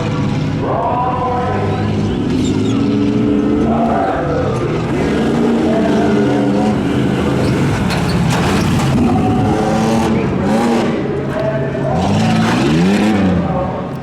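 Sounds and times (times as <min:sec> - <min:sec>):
pickup truck engine revving: 0:00.0 - 0:14.0.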